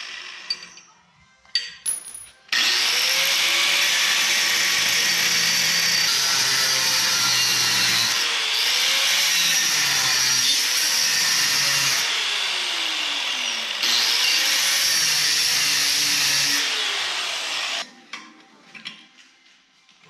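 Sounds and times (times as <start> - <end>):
angle grinder cutting steel: 0.0 - 0.8, 2.5 - 17.8.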